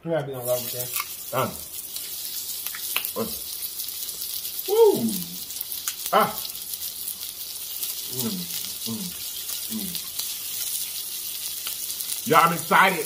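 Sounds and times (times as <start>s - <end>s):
food sizzling on grill plate: 0.4s - 13.0s.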